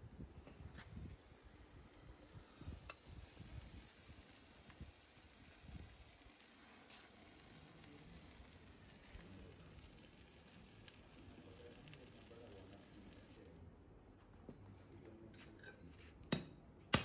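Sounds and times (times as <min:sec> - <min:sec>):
hoof horn sizzling and crackling: 0:00.0 - 0:13.7.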